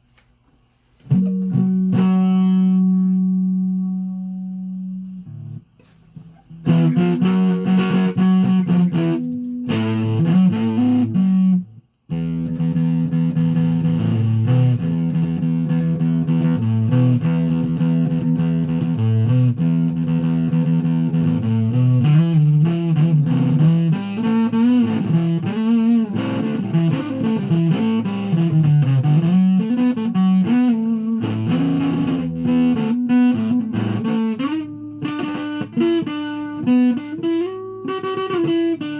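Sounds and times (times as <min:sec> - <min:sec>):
plucked electric guitar: 0:01.0 - 0:38.9.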